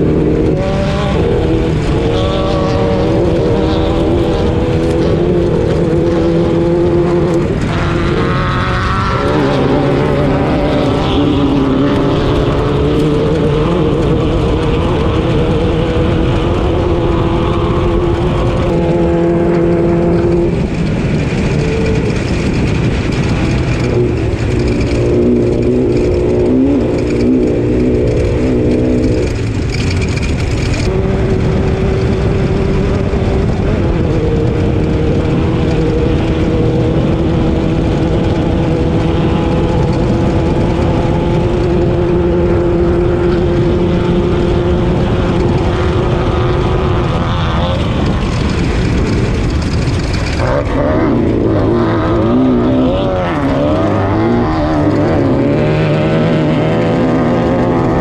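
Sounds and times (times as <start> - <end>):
constant rumble: 0.0 - 58.0
race car engine running: 0.0 - 58.0.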